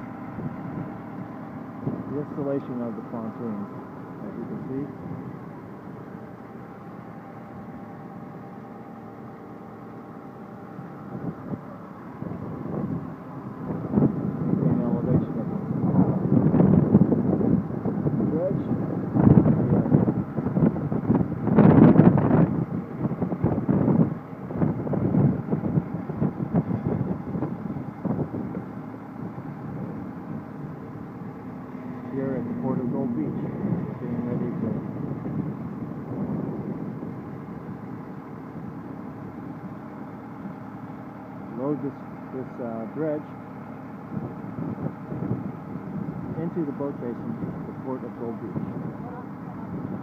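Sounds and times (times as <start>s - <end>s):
wind buffeting microphone: 0.0s - 8.7s, 10.4s - 40.9s, 43.7s - 50.0s
heavy machinery engine humming: 0.0s - 50.0s.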